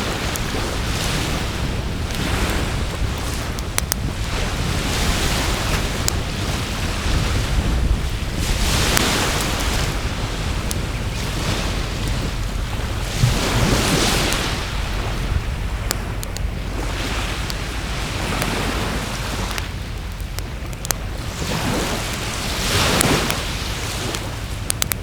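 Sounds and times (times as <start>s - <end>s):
sea waves washing ashore: 0.0s - 25.0s
wind rumble on microphone: 0.0s - 25.0s
wood fire crackling: 0.0s - 25.0s.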